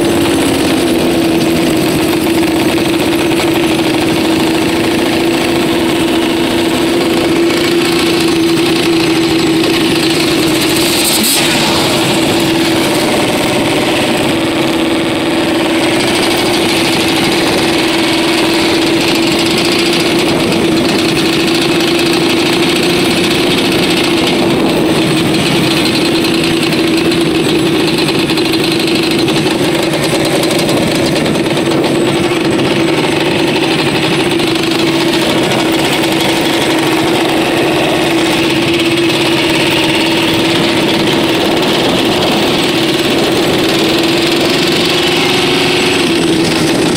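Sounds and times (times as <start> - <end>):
vehicle engine droning: 0.0 - 46.9.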